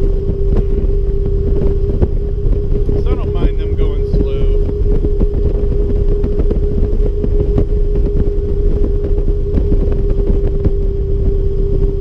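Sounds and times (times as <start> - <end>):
motorcycle engine rumble: 0.0 - 12.0
wind: 0.0 - 12.0.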